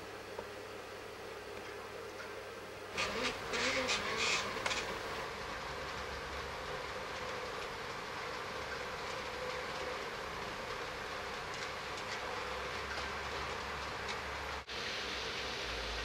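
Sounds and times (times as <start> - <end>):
model train whirring and rumbling: 0.0 - 16.0
wheels clicking on rail joints: 1.5 - 14.8.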